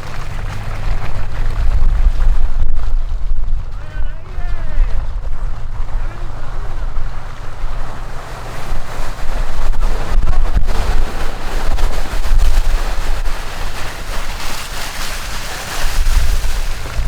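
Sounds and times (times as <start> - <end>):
engine low rumble: 0.0 - 17.0
wind buffeting microphone: 0.0 - 17.0.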